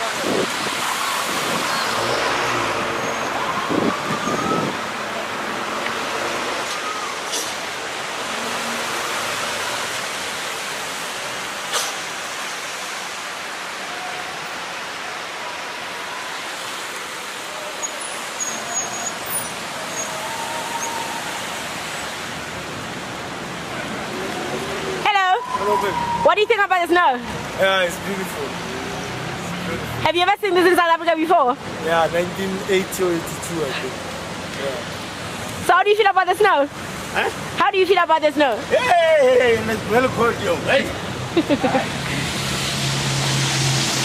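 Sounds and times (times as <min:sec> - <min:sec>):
rushing outdoor noise: 0:00.0 - 0:44.0.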